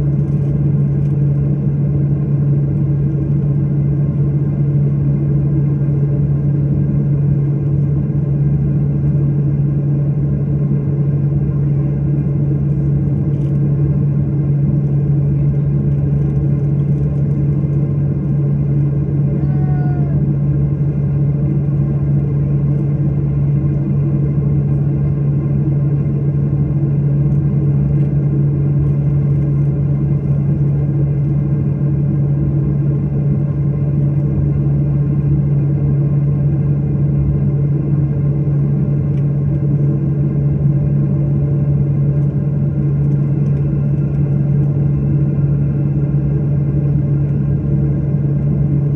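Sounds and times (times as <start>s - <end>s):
airliner cabin drone: 0.0s - 48.9s.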